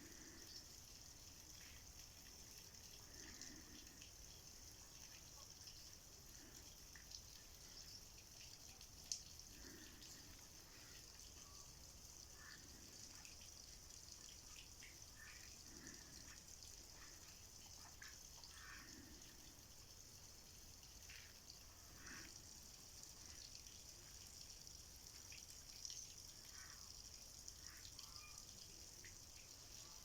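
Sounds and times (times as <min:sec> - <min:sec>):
faint steady hiss: 0:00.0 - 0:30.0
small ticks: 0:00.1 - 0:30.0.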